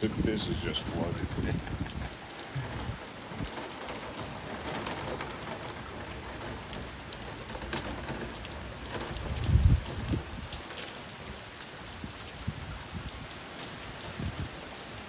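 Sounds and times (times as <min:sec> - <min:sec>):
heavy rain splashing: 0:00.0 - 0:15.0.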